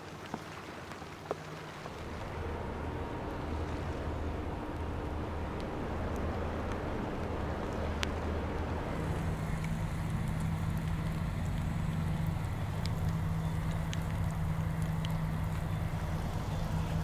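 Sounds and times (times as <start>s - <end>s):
ship machinery drone: 1.9s - 17.0s.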